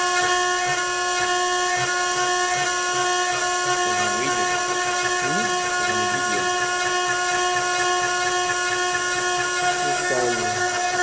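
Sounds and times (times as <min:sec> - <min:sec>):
machine spindle whining: 0:00.0 - 0:11.0.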